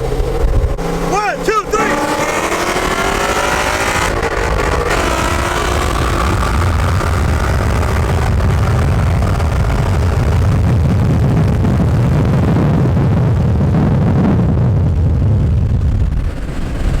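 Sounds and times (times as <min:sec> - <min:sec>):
car engine at full throttle: 0:00.0 - 0:17.0
road and wind noise: 0:00.0 - 0:17.0.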